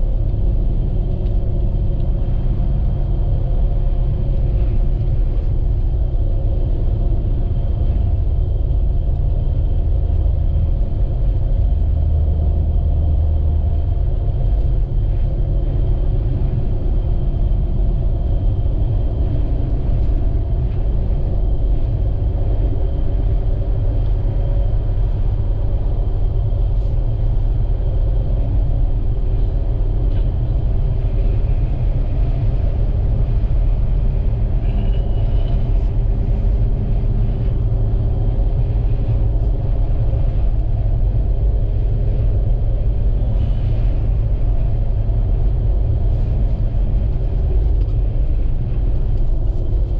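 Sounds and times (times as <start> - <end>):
steady hums: 0.0 - 49.9
vehicle cabin engine and road noise: 0.0 - 49.9.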